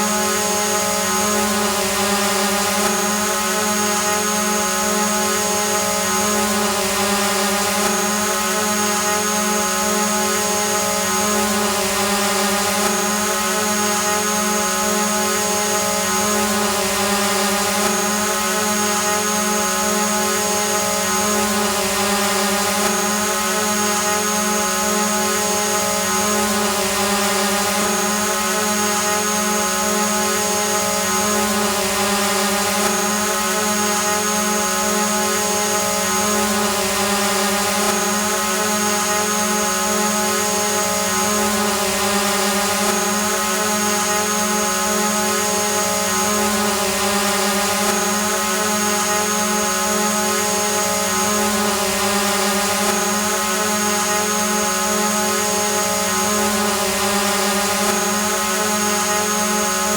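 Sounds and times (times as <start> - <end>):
drone propellers humming: 10.8 - 59.9.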